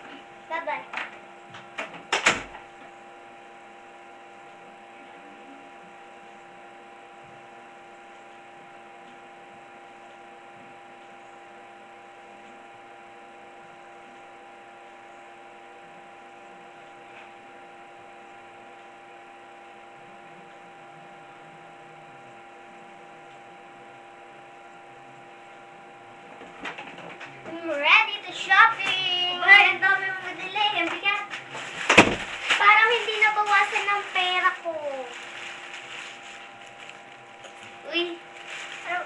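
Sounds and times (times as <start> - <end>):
steady electrical hum: 0.0 - 39.0.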